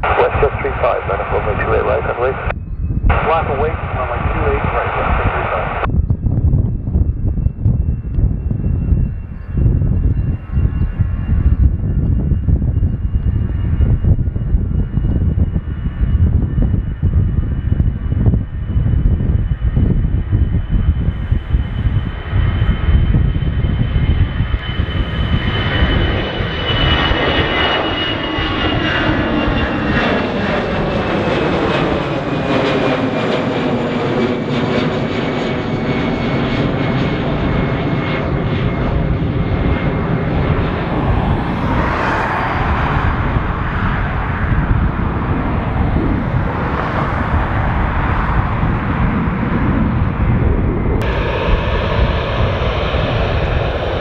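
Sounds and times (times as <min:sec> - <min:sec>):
jet airliner roar and whine: 0:00.0 - 0:54.0.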